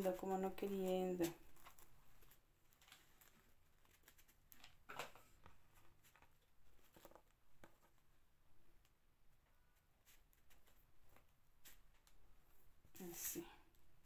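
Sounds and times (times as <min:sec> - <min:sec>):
soft rustles of craft pieces: 0:00.0 - 0:14.0.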